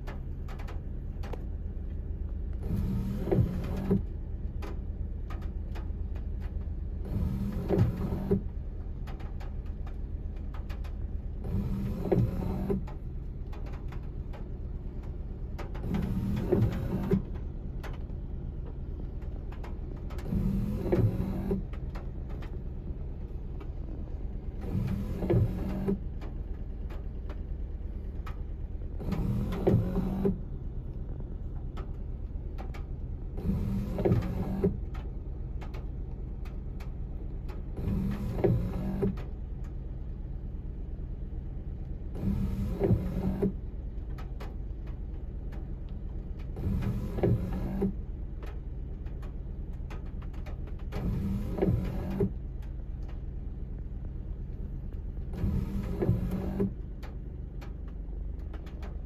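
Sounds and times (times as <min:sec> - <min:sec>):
windshield wipers sweeping: 0:00.0 - 0:59.0.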